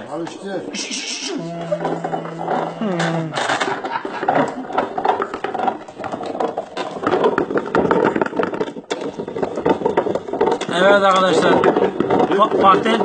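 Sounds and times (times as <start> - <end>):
wooden machine clattering: 1.4 - 13.0.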